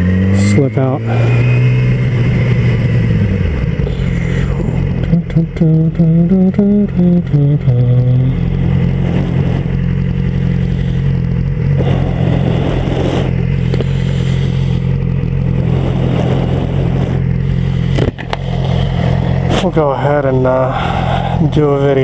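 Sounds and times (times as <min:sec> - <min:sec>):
motorcycle engine running at low revs: 0:00.0 - 0:22.0.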